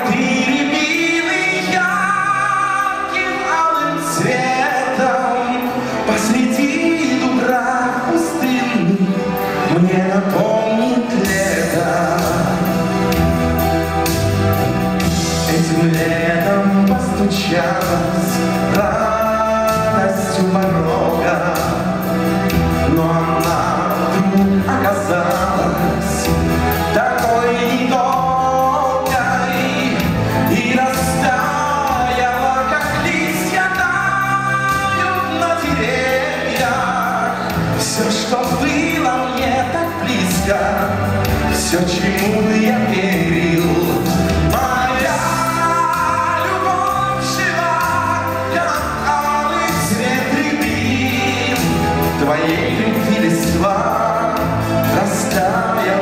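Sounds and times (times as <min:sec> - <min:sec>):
man singing: 0:00.0 - 0:56.0
pop-rock band playing live: 0:00.0 - 0:56.0.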